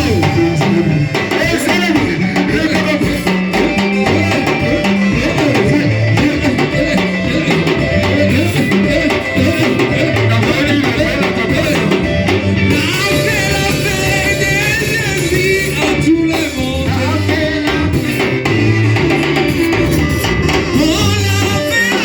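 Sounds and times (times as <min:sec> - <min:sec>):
instrumental band music: 0:00.0 - 0:22.0
person singing: 0:00.0 - 0:22.0.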